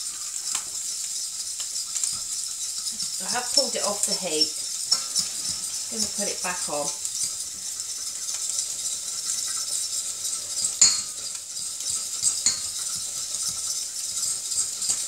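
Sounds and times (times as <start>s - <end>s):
fork scraping metal saucepan: 0.0s - 15.0s
high sizzle: 0.0s - 15.0s.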